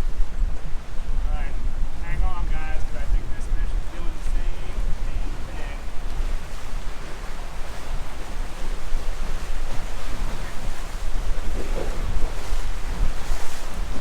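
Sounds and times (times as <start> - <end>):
water washing: 0.0 - 14.0
wind buffeting microphone: 0.0 - 14.0.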